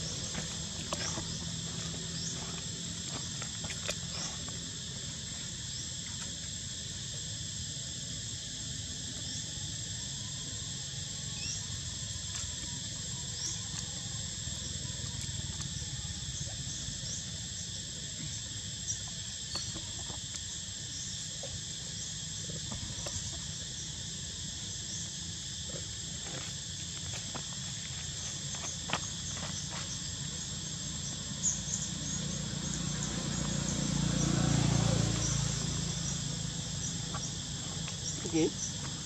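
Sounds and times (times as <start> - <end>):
insect chirps and ticks: 0.0 - 39.0
insects droning: 0.0 - 39.0.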